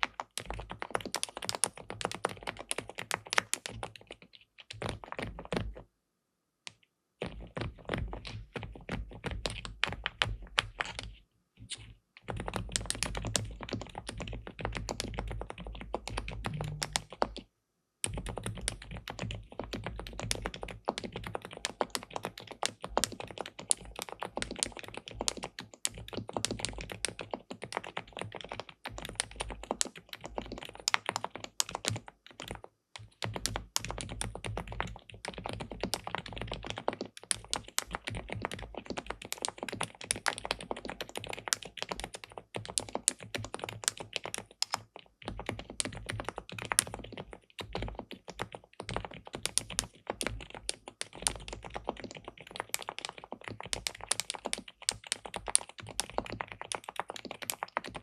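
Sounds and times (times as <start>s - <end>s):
mechanical keyboard typing: 0.0s - 5.8s, 6.7s - 58.0s.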